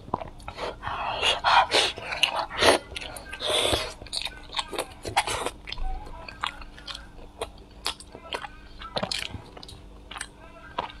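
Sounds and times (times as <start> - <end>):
chewing with mouth clicks: 0.0 - 11.0.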